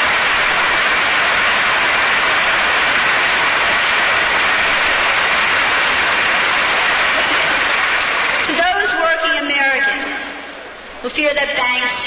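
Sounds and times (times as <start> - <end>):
crowd applauding: 0.0 - 10.7.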